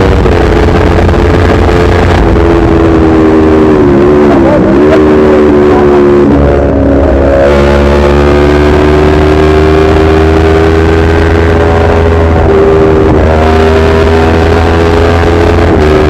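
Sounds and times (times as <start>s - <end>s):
motorcycle engine at speed: 0.0s - 16.0s.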